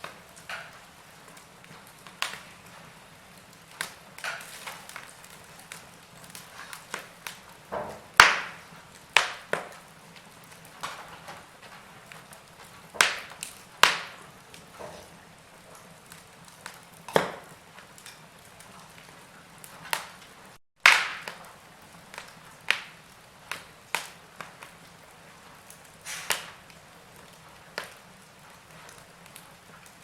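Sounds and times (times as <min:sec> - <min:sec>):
low steady fire hiss: 0:00.0 - 0:30.0
wood fire pops and snaps: 0:00.0 - 0:30.0.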